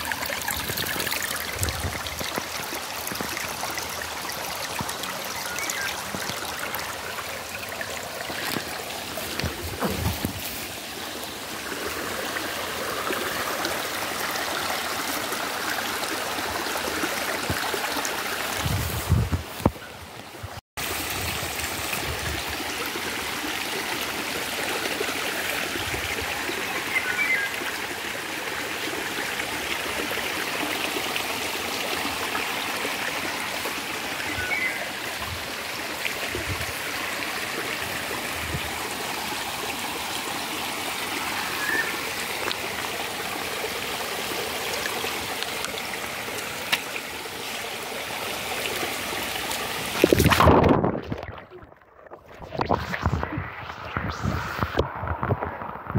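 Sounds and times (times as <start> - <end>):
brook running over stones: 0.0 - 55.9.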